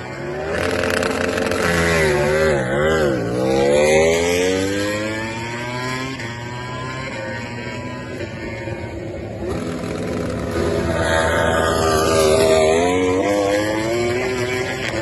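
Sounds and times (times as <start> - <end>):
racing motorcycle passing by: 0.0 - 15.0.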